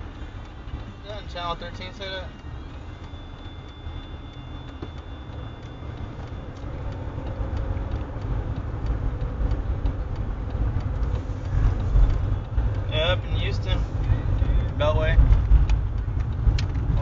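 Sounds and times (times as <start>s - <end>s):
car cabin road noise: 0.0s - 17.0s.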